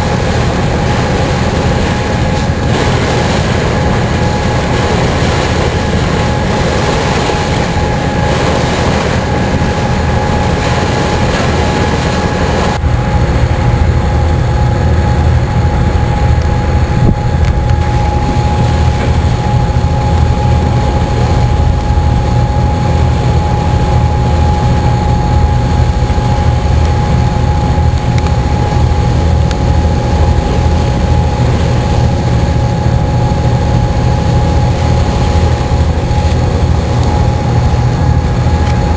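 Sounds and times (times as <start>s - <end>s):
ferry diesel engines rumbling: 0.0s - 38.9s
steady hum: 0.0s - 38.9s.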